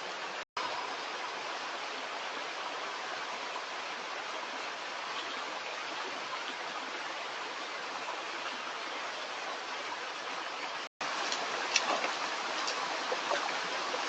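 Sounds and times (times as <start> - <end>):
stream water running: 0.0 - 14.0.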